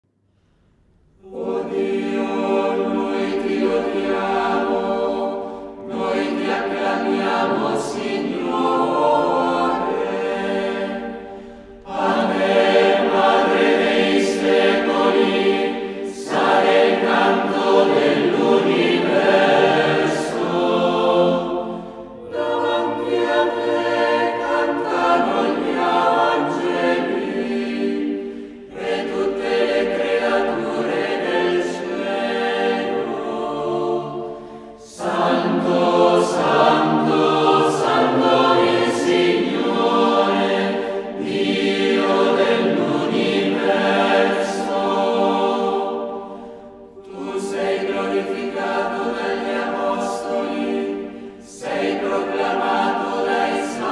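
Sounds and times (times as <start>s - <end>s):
choir singing: 1.2s - 53.9s.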